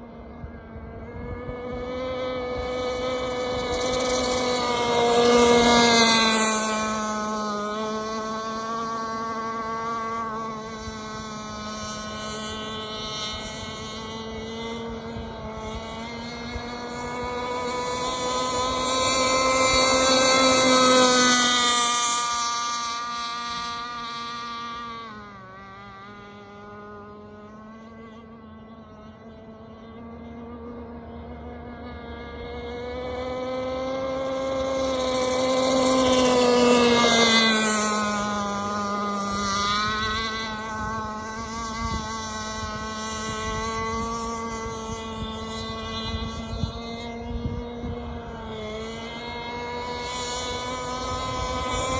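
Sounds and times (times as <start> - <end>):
rc boat engine whine: 0.0 - 51.9.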